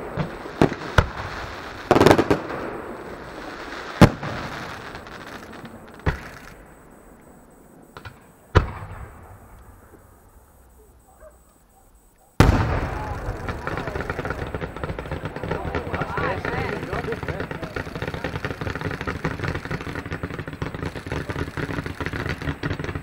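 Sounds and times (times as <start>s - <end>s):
fireworks bangs: 0.0s - 11.4s, 12.4s - 23.0s
fireworks crackling: 0.0s - 23.0s.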